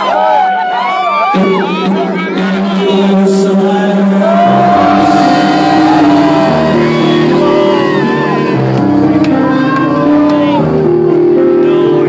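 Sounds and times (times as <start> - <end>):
loud electronic dance music: 1.3 - 11.1.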